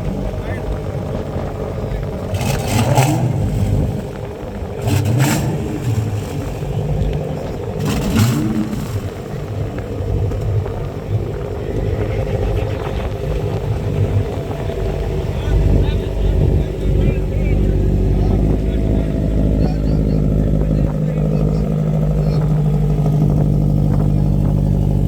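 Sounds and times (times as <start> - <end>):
car engines rumbling: 0.0 - 25.0
engine revving bursts: 0.0 - 25.0.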